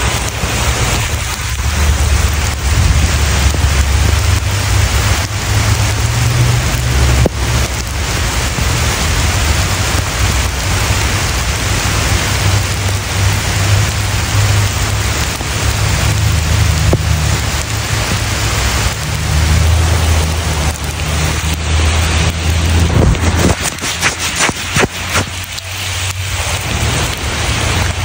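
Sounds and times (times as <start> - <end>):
low rumble: 0.0 - 11.8, 13.0 - 28.0
rain on leaves and ground: 0.0 - 28.0.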